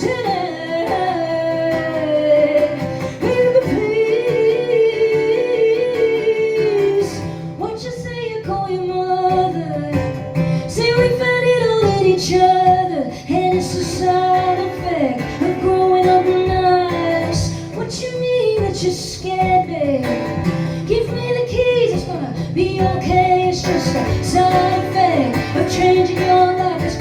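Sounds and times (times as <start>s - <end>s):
guitar accompaniment: 0.0s - 27.0s
woman singing: 0.0s - 27.0s.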